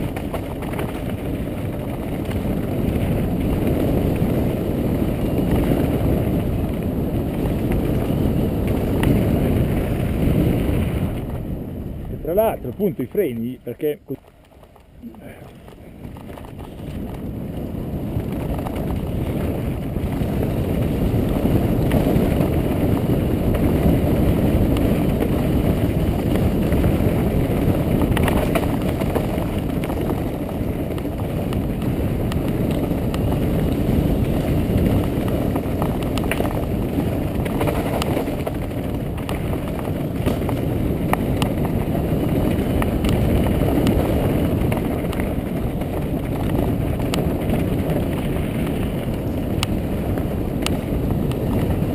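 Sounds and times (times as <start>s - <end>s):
bike clicks and rattles: 0.0s - 11.5s, 14.0s - 51.9s
knobby tyres rolling on dirt: 0.0s - 51.9s
wind buffeting microphone: 0.0s - 51.9s.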